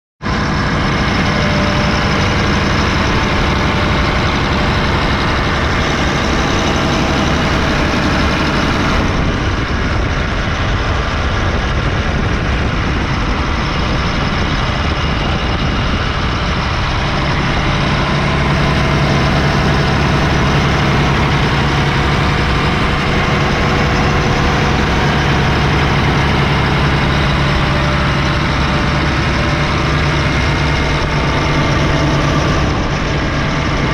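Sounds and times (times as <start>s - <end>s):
excavator diesel engine idling: 0.2s - 33.9s.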